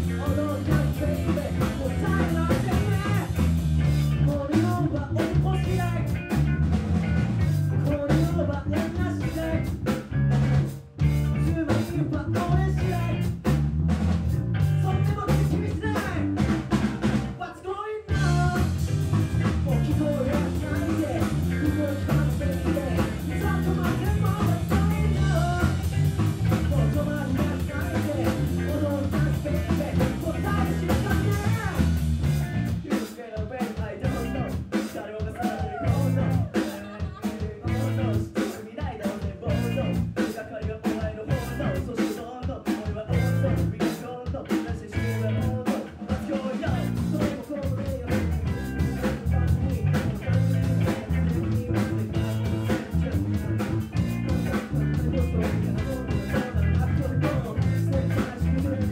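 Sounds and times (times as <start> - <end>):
person singing through pa: 0.0 - 10.4, 11.0 - 13.5, 14.6 - 58.9
live band playing funk rock: 0.0 - 17.4, 18.0 - 58.9.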